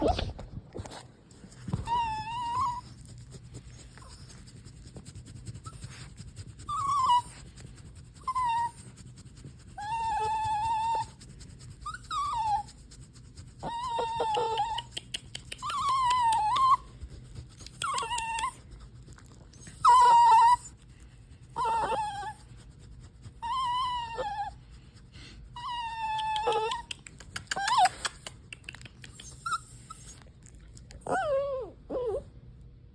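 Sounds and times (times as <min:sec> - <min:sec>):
puppy whining: 0:00.0 - 0:04.8, 0:05.4 - 0:20.9, 0:21.5 - 0:22.7, 0:23.3 - 0:32.6.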